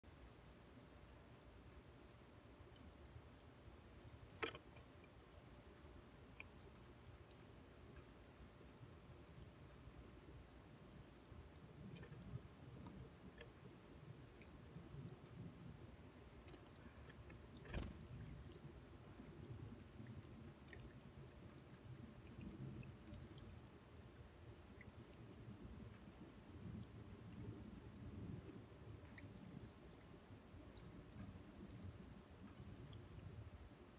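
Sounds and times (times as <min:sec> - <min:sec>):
insect chirping: 0:00.1 - 0:33.9.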